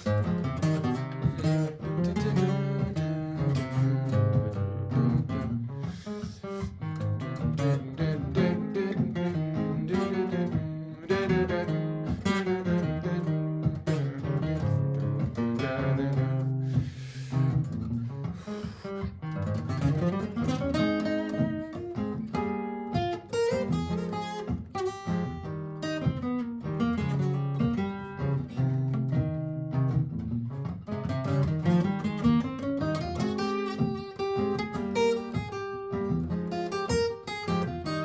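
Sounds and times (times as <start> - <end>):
acoustic guitar picked lines: 0.0 - 38.0.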